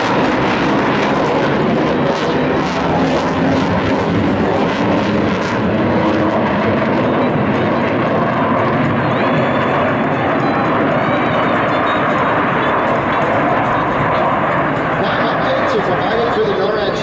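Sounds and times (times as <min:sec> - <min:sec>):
fighter jets roaring past: 0:00.0 - 0:17.0.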